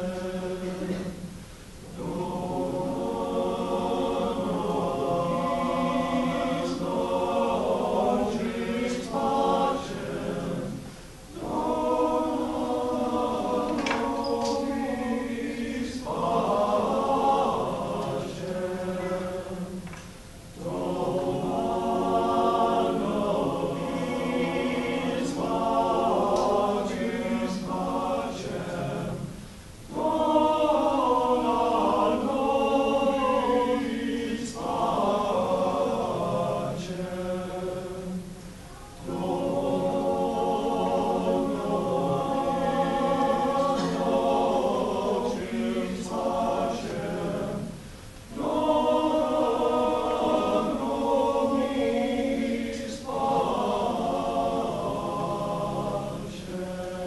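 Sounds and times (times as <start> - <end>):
men's chorus singing a cappella: 0.0 - 57.0.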